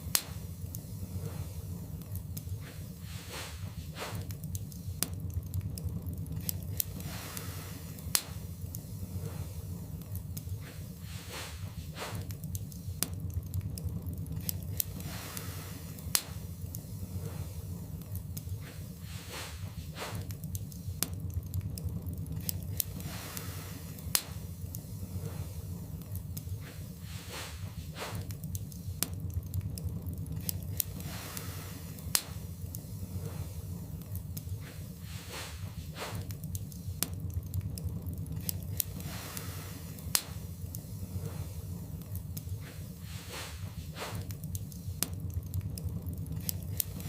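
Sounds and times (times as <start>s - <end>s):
soft hiss: 0.0s - 47.0s
wood fire crackling: 0.0s - 47.0s.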